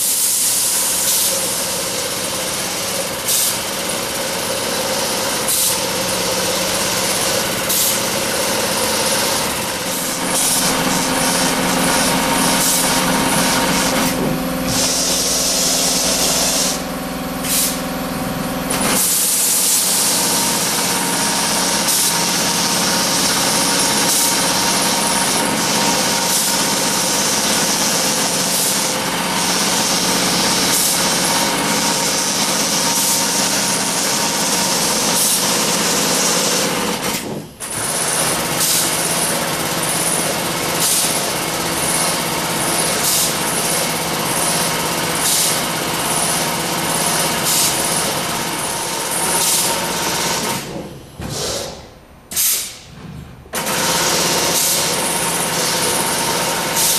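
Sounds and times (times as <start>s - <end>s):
tufting machine mechanical chatter: 0.0s - 50.7s.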